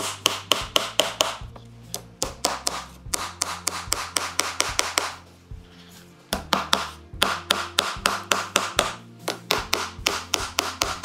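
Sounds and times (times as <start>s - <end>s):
hammer tapping nails into wood: 0.0s - 5.2s, 6.3s - 11.0s.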